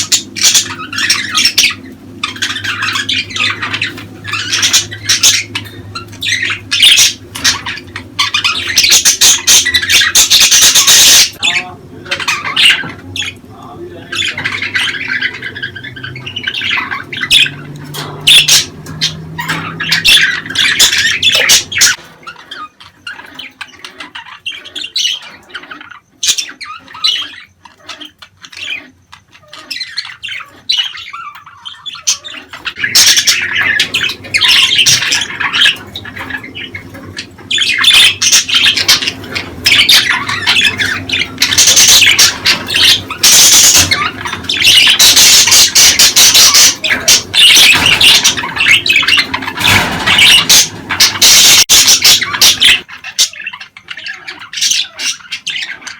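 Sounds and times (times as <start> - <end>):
budgerigars chattering: 0.0 - 55.9.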